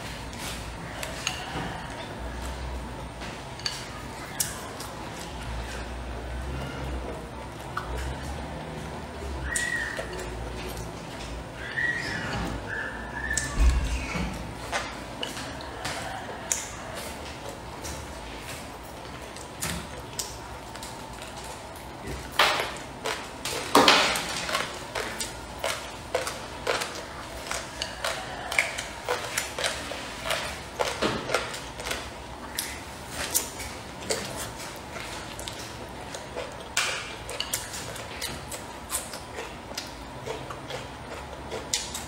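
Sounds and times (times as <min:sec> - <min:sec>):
chewing: 0:00.1 - 0:42.0.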